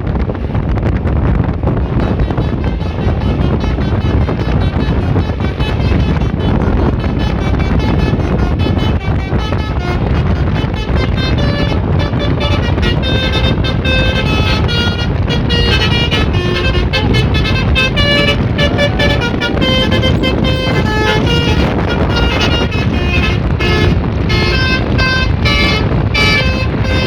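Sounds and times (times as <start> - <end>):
steady low rumble: 0.0 - 27.0
musical bus horn tune: 1.7 - 27.0.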